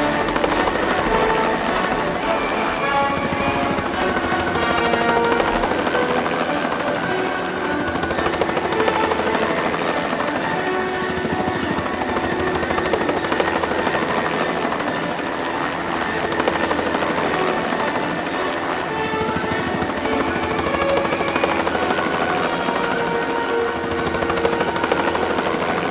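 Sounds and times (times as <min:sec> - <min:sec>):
helicopter rotor blades chopping: 0:00.0 - 0:25.9.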